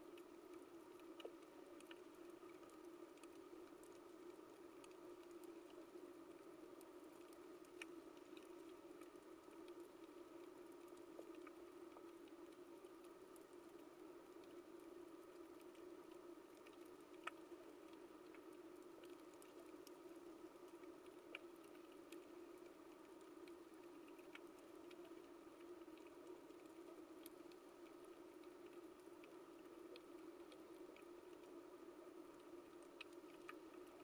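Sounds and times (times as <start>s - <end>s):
low underwater hum: 0.0s - 34.0s.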